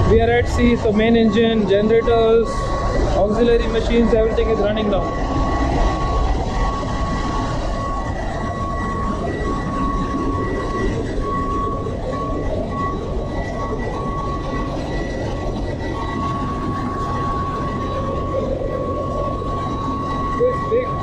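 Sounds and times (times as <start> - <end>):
engine room machinery din: 0.0 - 21.0
high steady whine: 0.0 - 21.0.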